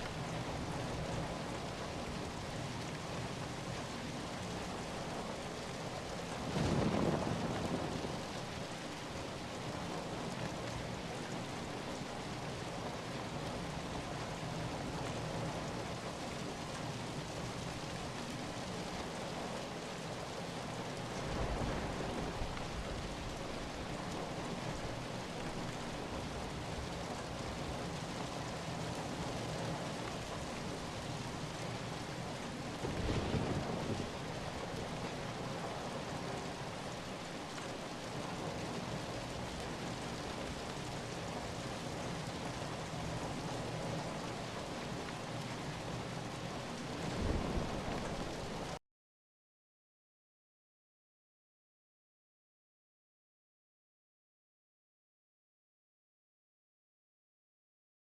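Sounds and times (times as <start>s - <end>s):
steady rain falling: 0.0s - 48.8s.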